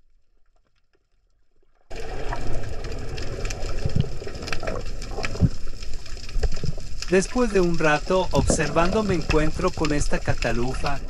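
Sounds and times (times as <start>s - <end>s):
underwater clicks: 2.0s - 11.0s.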